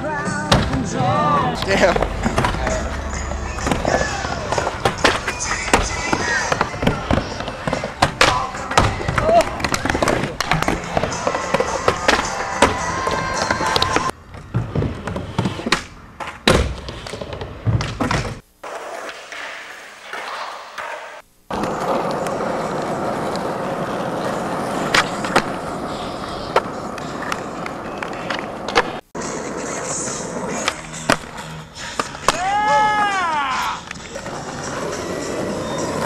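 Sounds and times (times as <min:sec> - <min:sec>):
skateboard wheels rolling on asphalt: 0:01.3 - 0:36.0
skateboard clacking: 0:01.6 - 0:16.5, 0:17.8 - 0:36.0.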